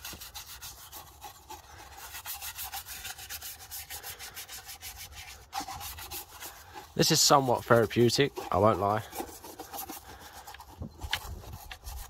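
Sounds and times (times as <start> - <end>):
brush scrubbing wet metal: 0.0 - 12.0.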